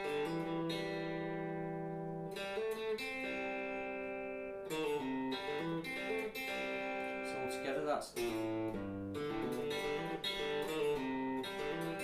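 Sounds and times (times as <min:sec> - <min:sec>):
guitar picking slow notes: 0:00.0 - 0:12.0.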